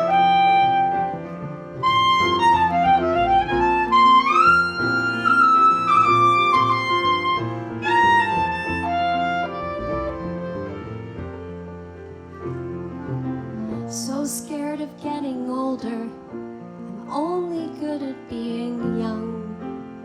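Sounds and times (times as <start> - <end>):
gliding solo melody: 0.0 - 16.1
steady musical accompaniment: 0.0 - 16.8.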